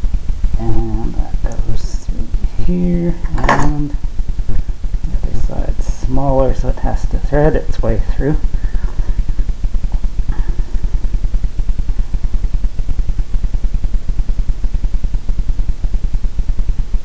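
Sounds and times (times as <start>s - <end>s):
low throbbing hum: 0.0s - 17.0s.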